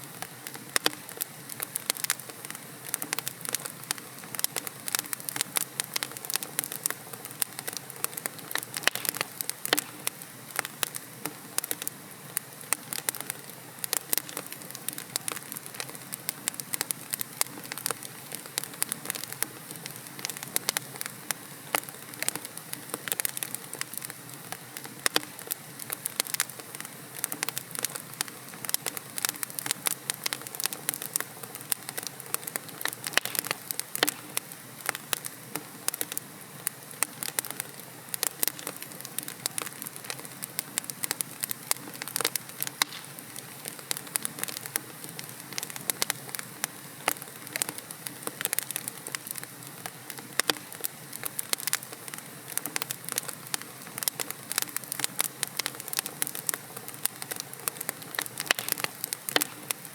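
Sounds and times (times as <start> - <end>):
fire hissing: 0.0 - 59.9
wood crackling and popping: 0.1 - 59.9.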